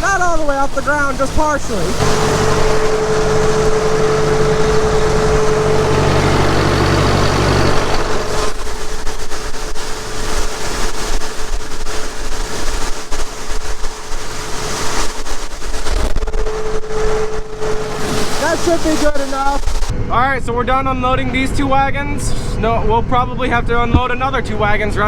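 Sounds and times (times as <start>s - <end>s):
grain auger whine: 0.0s - 20.6s
rushing noise: 0.0s - 20.7s
tractor engine low hum: 0.0s - 21.4s.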